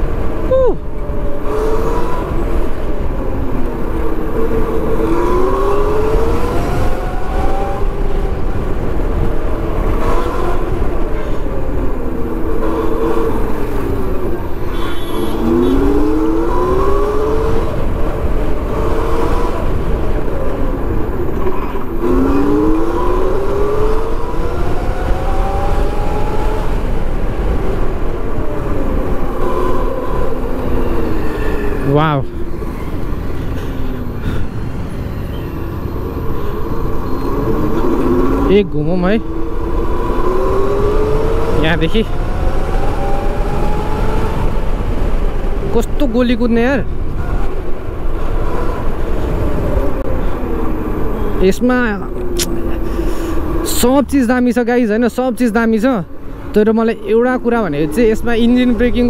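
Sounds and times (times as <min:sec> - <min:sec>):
wind rumble on microphone: 0:00.0 - 0:54.4.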